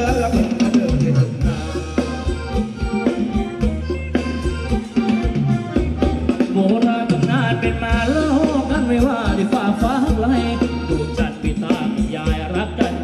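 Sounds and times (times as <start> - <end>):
live band dance music: 0.0 - 13.0
steady drum beat: 0.0 - 13.0.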